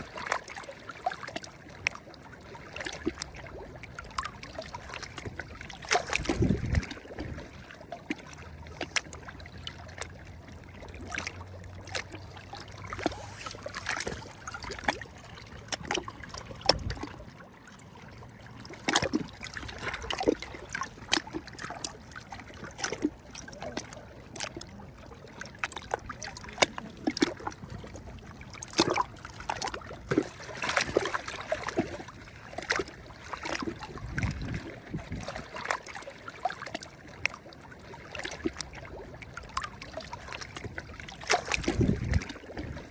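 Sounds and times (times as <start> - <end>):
small waves lapping at shore: 0.0 - 42.9.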